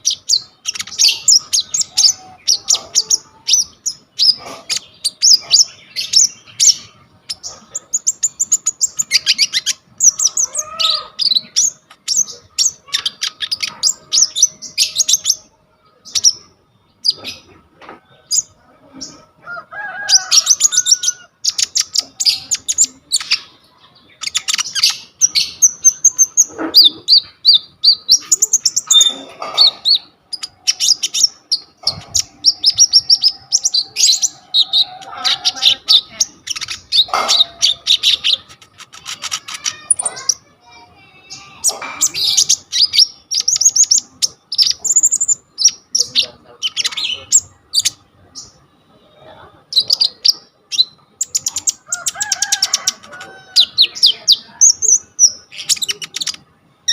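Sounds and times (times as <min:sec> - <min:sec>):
bird singing chirps and trills: 0:00.0 - 0:56.9.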